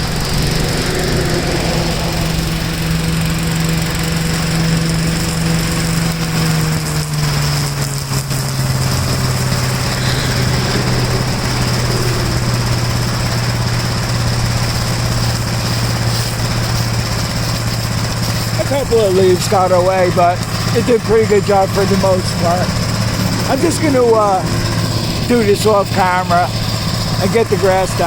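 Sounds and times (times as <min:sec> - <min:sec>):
walk-behind tractor engine running: 0:00.0 - 0:28.0.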